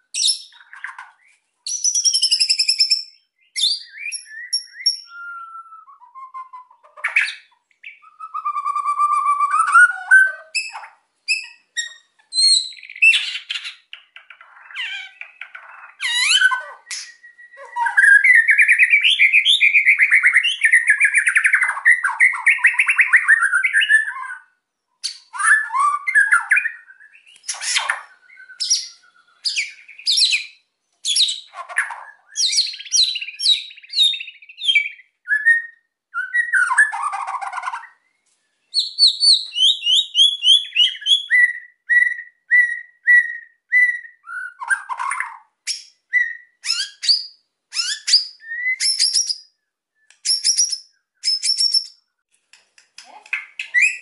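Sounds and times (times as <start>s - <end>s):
bird singing: 0.0s - 52.2s, 53.5s - 54.0s.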